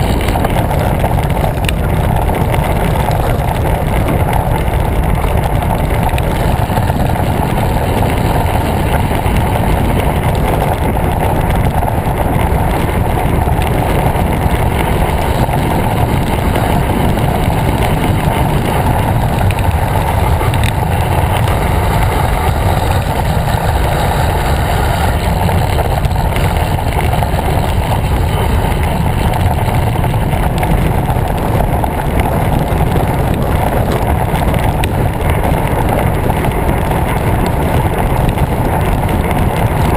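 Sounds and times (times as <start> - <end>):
bicycle tyres rolling on asphalt: 0.0 - 39.9
wind buffeting microphone: 0.0 - 39.9.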